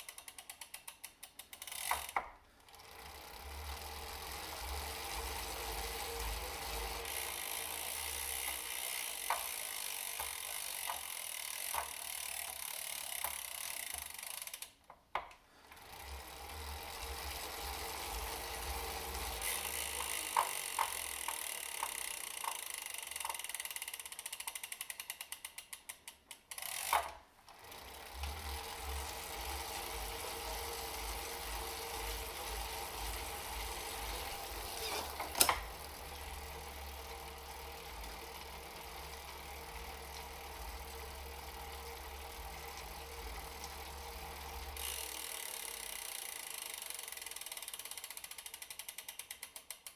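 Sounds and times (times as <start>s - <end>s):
bicycle freehub ratcheting: 0.0s - 49.9s
bike trainer rhythmic pulsing: 0.0s - 49.9s.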